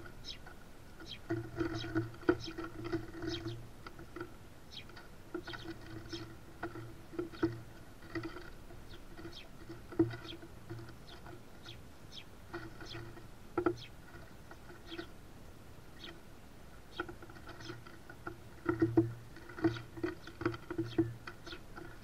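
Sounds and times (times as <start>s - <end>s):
birds pecking and cracking seeds: 0.0s - 22.0s.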